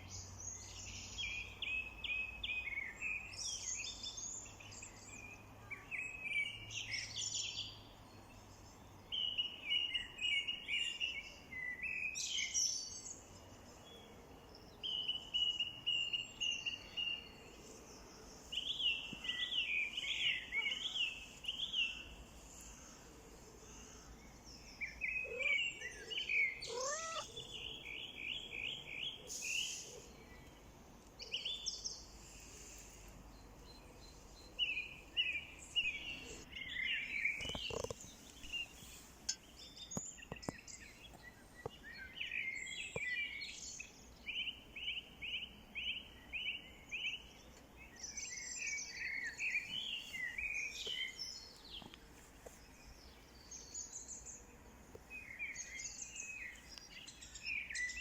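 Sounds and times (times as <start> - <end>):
birds chirping and trilling: 0.1 - 58.0.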